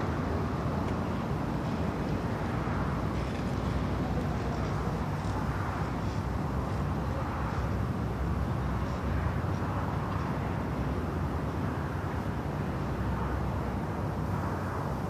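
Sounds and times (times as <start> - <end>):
outdoor rumble: 0.0 - 15.0.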